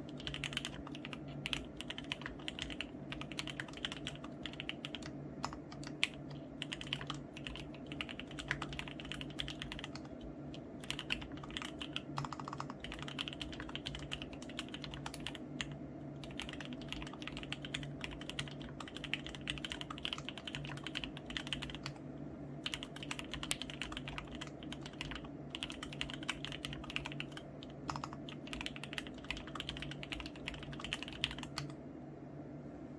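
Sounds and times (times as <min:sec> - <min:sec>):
fast typing on mechanical keyboard: 0:00.0 - 0:22.0, 0:22.6 - 0:31.7.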